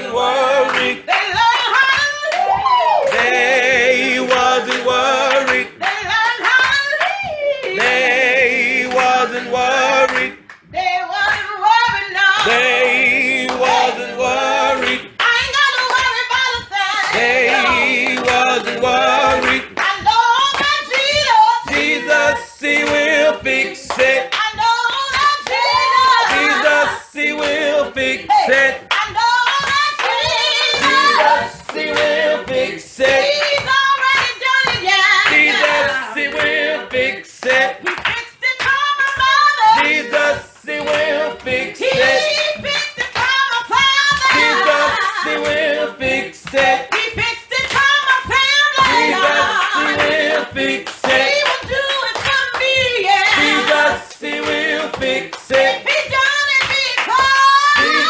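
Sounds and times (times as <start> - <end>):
gospel singing with vibrato: 0.0 - 58.0
handclapping: 0.0 - 58.0.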